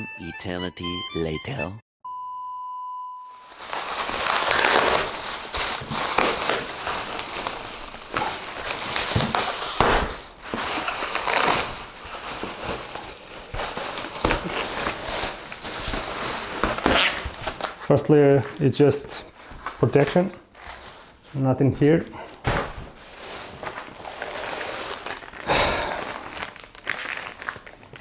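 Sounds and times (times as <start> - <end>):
plastic wrap crinkling: 3.3 - 28.0
cardboard sheets shifting: 3.4 - 21.4, 22.2 - 27.4.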